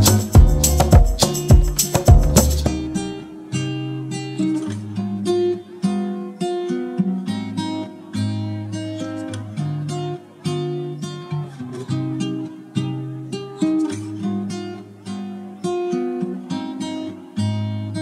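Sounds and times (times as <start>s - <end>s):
acoustic guitar picking: 0.0s - 18.0s
strummed guitar with percussion: 0.0s - 18.0s.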